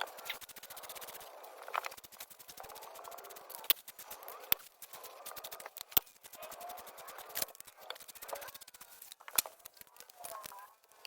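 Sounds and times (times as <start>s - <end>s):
hand tools clicking on metal: 0.0s - 11.0s.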